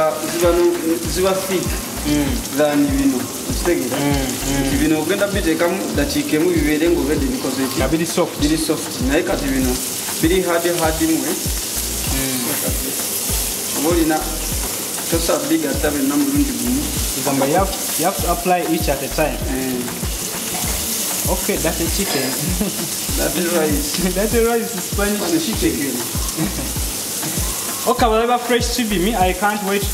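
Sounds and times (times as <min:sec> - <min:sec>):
vegetables sizzling in oil: 0:00.0 - 0:29.9.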